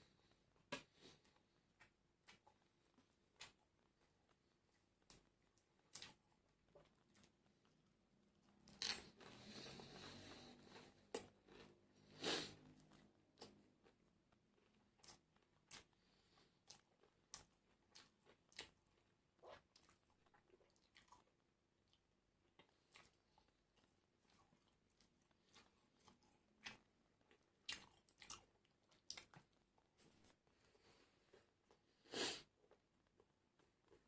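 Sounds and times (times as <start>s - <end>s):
person chewing crispy food: 1.0s - 7.8s, 8.5s - 34.0s.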